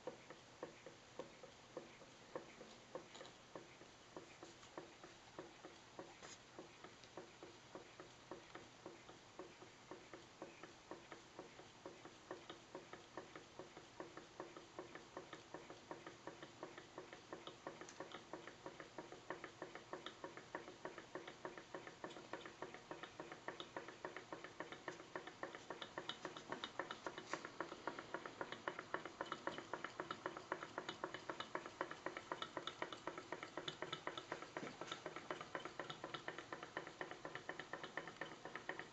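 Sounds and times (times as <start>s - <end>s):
model engine rapid ticking: 0.0s - 38.9s.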